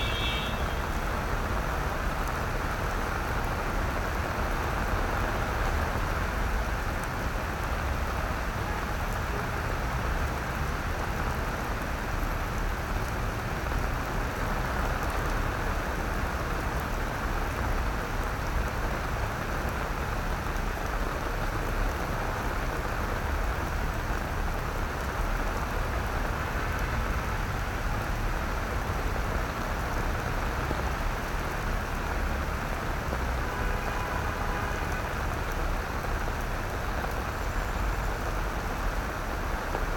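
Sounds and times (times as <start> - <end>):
rain falling on paving: 0.0 - 39.9.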